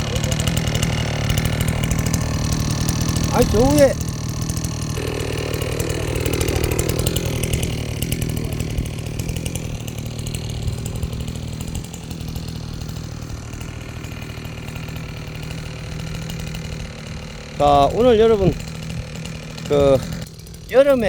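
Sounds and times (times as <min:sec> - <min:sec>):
chainsaw cutting logs: 0:00.0 - 0:21.0.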